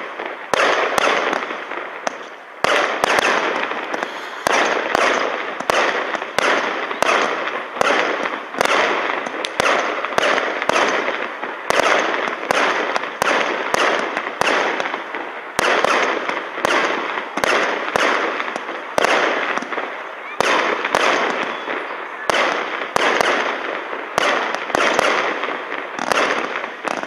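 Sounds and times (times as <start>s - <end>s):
fireworks firing shots: 0.0s - 27.0s.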